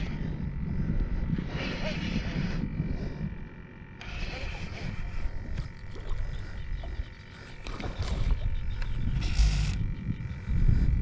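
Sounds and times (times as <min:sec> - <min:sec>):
wind buffeting microphone: 0:00.0 - 0:11.0
fishing reel clicks and rustles: 0:01.3 - 0:10.7.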